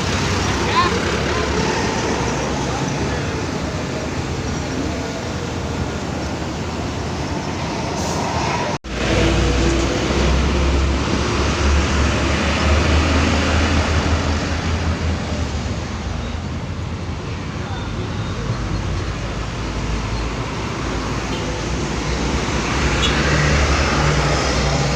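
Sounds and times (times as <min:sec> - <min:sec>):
deep engine rumble: 0:00.0 - 0:22.7
road and engine noise: 0:00.0 - 0:24.9.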